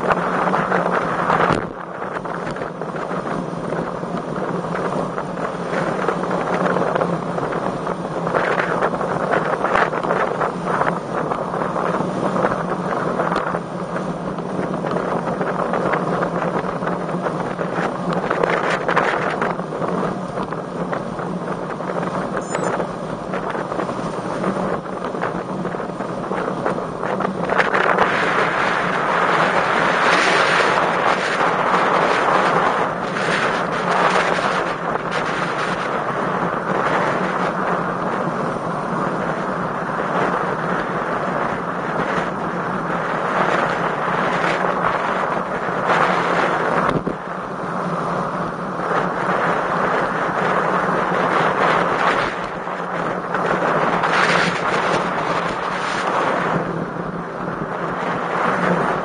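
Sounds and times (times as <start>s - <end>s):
low road hum: 0.0s - 59.0s
wind buffeting microphone: 0.0s - 59.0s.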